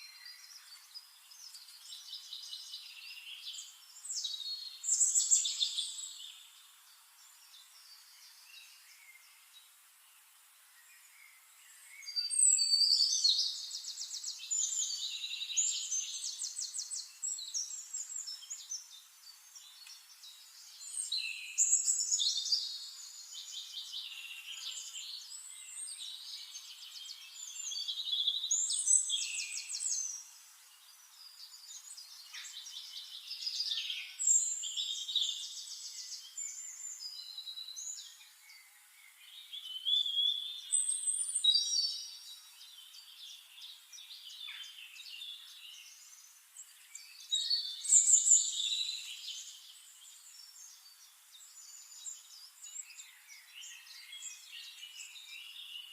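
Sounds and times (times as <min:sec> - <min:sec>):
faint steady hiss: 0:00.0 - 0:55.9
songbirds trilling and twittering: 0:00.0 - 0:55.9.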